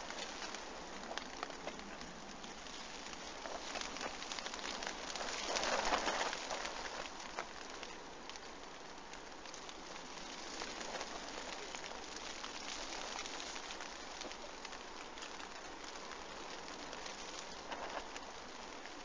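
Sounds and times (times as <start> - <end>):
raindrops ticking on fabric: 0.0 - 19.0
steady rain pattering: 0.0 - 19.0.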